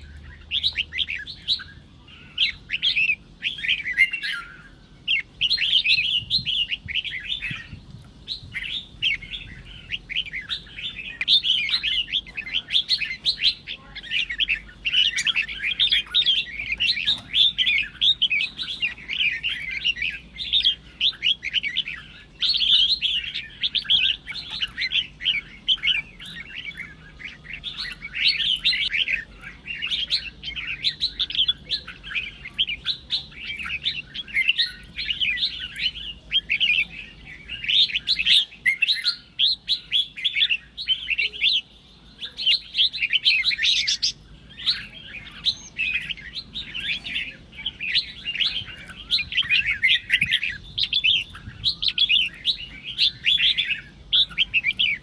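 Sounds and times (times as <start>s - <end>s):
birds chirping song: 0.0s - 55.0s.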